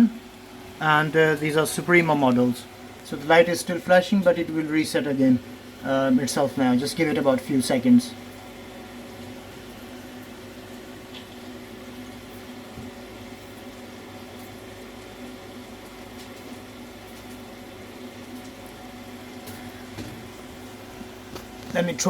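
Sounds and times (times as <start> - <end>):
gas boiler humming: 0.0 - 22.0.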